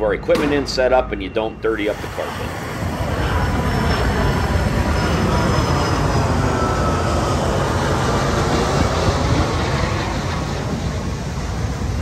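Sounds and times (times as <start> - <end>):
jet plane roaring overhead: 0.0 - 12.0.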